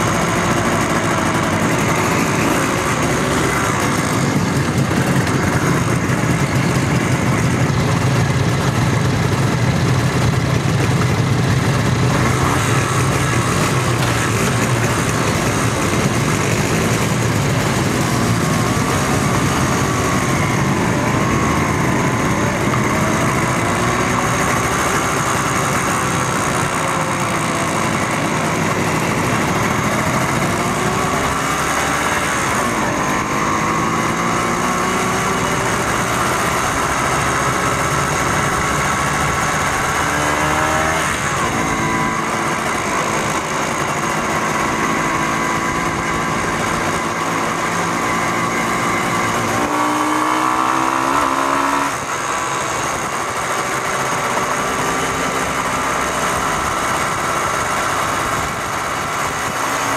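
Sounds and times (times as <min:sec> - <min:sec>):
motorcycle engines: 0:00.0 - 0:59.9
road noise: 0:00.0 - 0:59.9.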